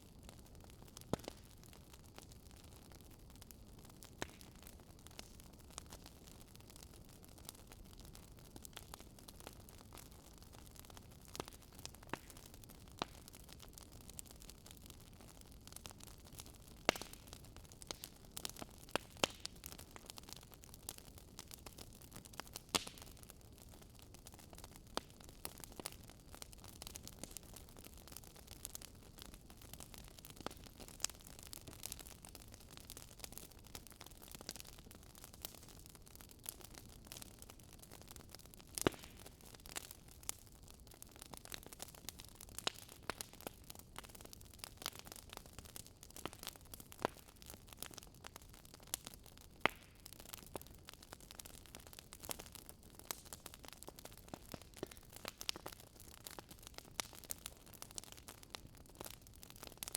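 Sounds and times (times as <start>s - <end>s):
fireplace crackling: 2.1s - 40.5s, 41.2s - 59.9s.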